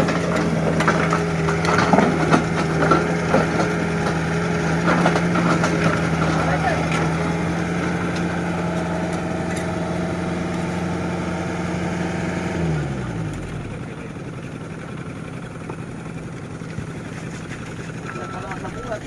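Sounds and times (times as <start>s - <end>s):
engine idling and winding down: 0.0s - 19.0s.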